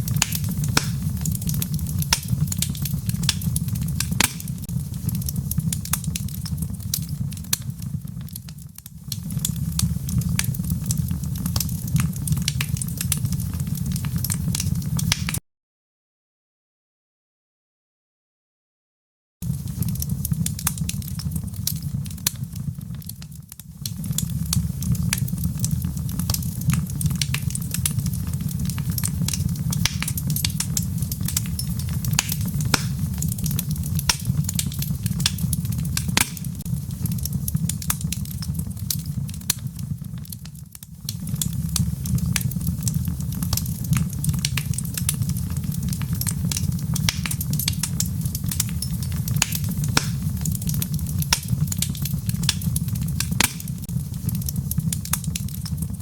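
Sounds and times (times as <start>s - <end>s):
fire low rumble: 0.0s - 15.4s, 19.4s - 56.0s
wood fire crackling and popping: 0.0s - 15.4s, 19.4s - 56.0s.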